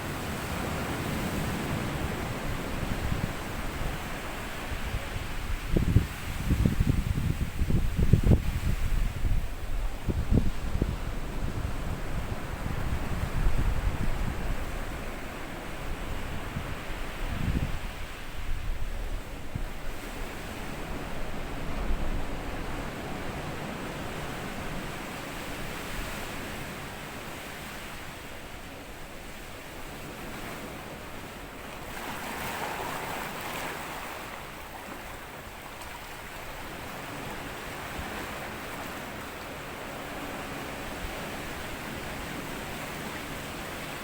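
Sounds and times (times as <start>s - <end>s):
wind buffeting microphone: 0.0s - 26.8s, 29.6s - 44.0s
sea waves washing on sand: 0.0s - 44.0s.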